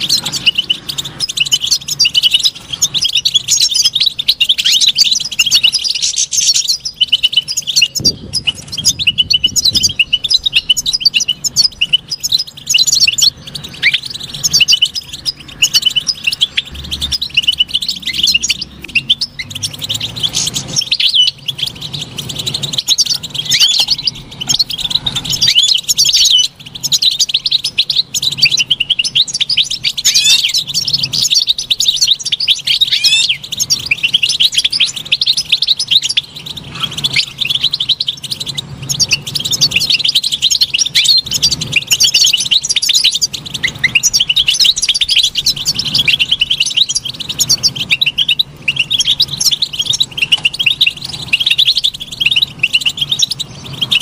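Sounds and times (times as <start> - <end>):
goldfinch twittering song: 0.0 - 54.0.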